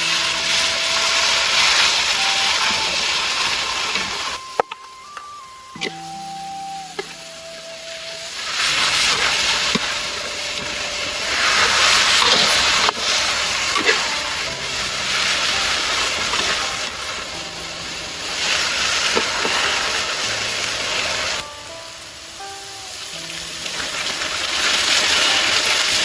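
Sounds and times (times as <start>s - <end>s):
loud hissing: 0.0s - 26.0s
soft background music: 0.0s - 26.0s.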